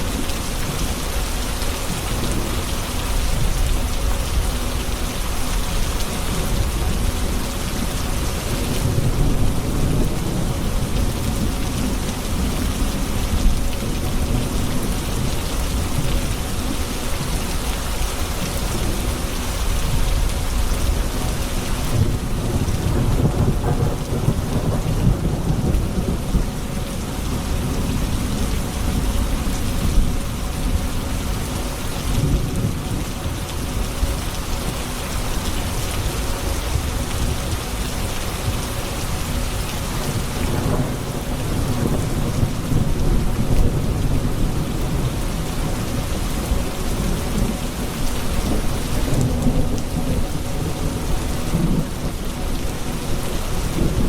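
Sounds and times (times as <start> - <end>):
heavy rain: 0.0 - 54.0
low rumble of thunder: 0.0 - 54.0.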